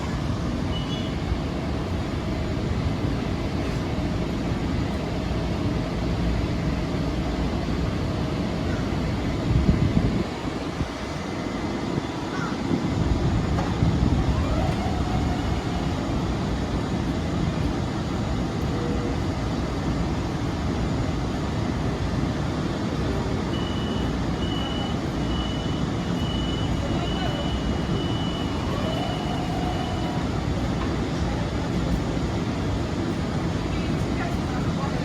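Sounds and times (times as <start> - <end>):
train rumbling through station: 0.0 - 35.0.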